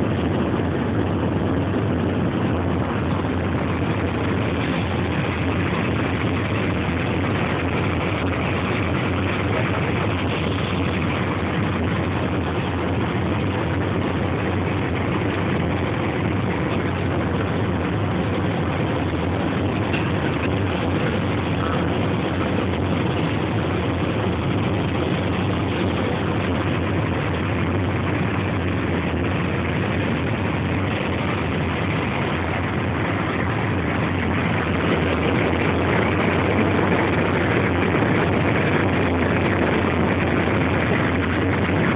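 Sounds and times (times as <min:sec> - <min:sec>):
jet airliner cabin drone: 0:00.0 - 0:41.9.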